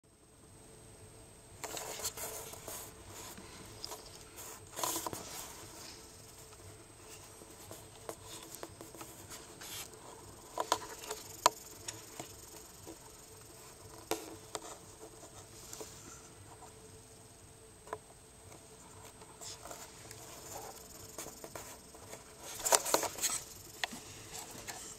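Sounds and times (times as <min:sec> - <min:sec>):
rustling and scraping: 0:01.6 - 0:16.9, 0:17.8 - 0:24.9.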